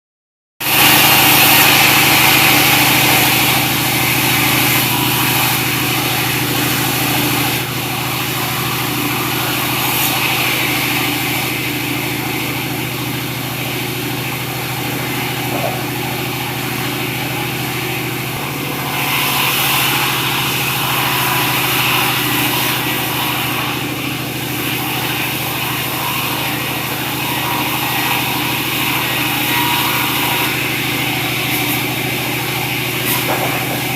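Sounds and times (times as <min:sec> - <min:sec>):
sawmill saw cutting timber: 0:00.6 - 0:33.9.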